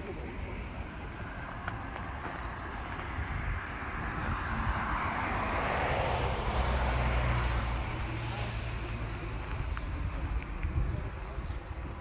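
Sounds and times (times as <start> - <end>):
passing vehicle: 0.0 - 12.0.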